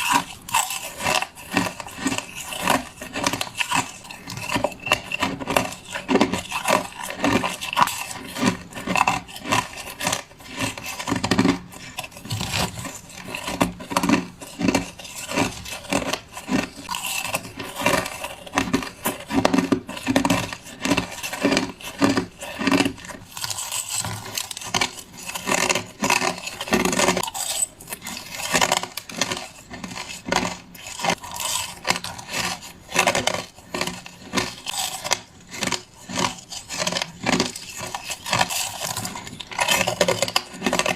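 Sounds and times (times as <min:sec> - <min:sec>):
person crunching ice: 0:00.0 - 0:40.9.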